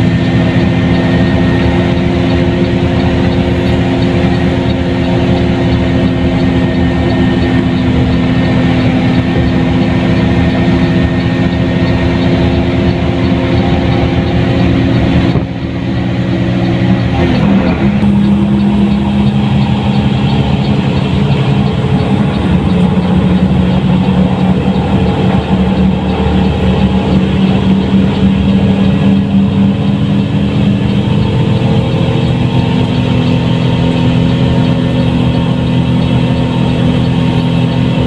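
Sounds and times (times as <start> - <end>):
bus diesel engine running: 0.0 - 38.0.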